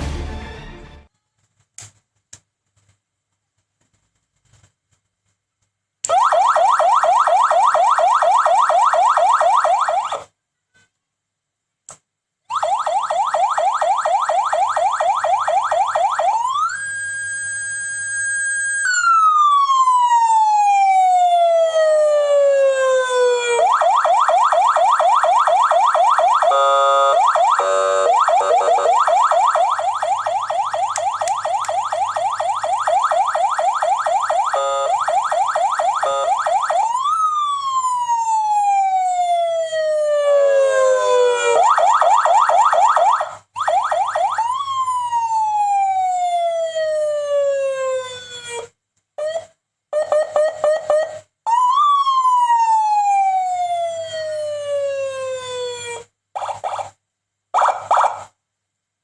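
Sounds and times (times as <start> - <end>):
electronic siren yelps and glides: 6.1 - 10.3, 12.5 - 57.0.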